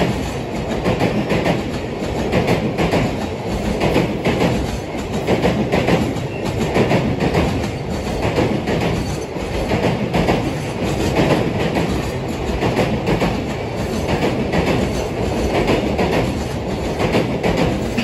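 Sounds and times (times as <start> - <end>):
train wheels clattering: 0.0 - 18.0.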